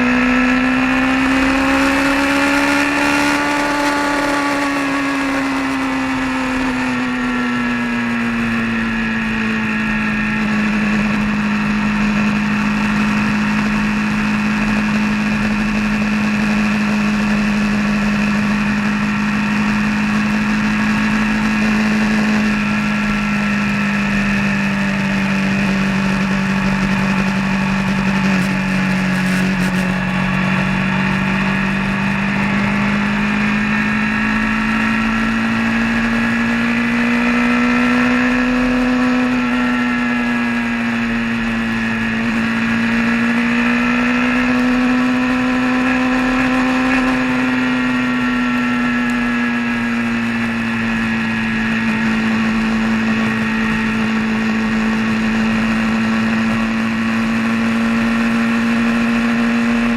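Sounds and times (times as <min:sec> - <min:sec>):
vehicle engine driving: 0:00.0 - 0:59.9.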